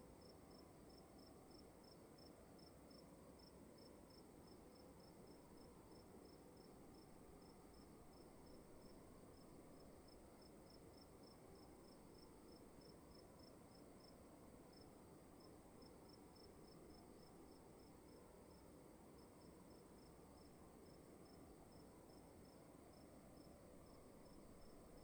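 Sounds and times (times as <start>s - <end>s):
crickets chirping: 0.2s - 25.0s.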